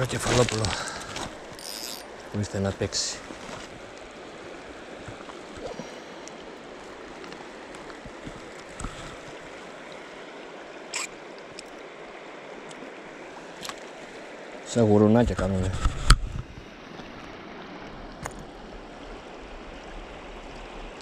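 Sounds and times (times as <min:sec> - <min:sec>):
river running over stones: 0:00.0 - 0:21.0.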